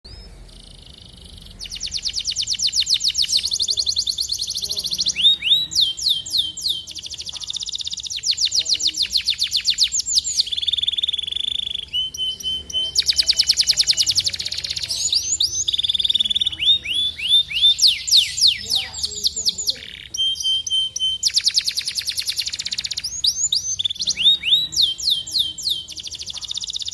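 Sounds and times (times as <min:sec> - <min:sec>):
canary singing: 0:00.0 - 0:26.9.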